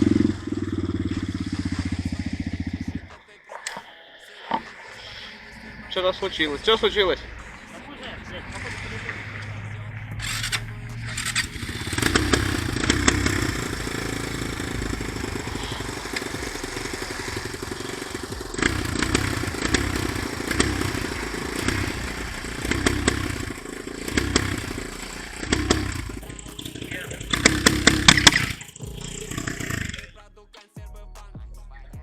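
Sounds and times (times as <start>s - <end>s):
dirt bike engine revving: 0.0s - 3.2s, 5.2s - 30.2s.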